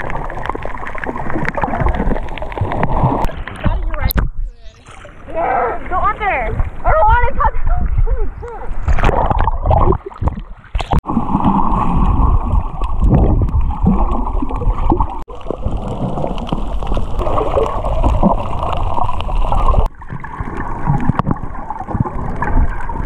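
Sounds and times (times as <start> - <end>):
underwater gurgling and rushing: 0.0 - 23.0.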